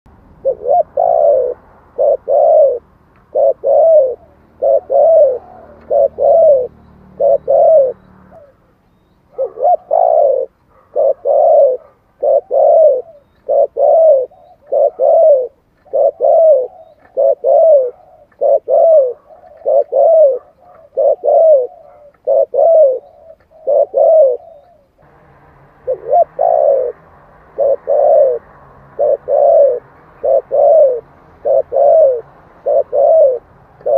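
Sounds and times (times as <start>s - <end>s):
dove cooing: 0.4s - 25.1s, 25.7s - 33.9s.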